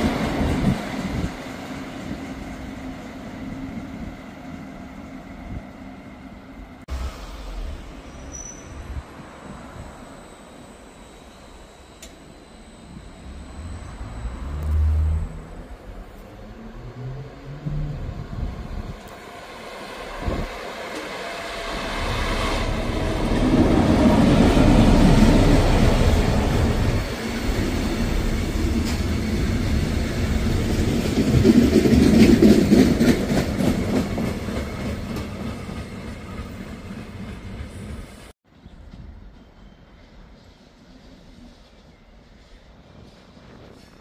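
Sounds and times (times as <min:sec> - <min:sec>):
diesel locomotive engine: 0:00.0 - 0:38.3.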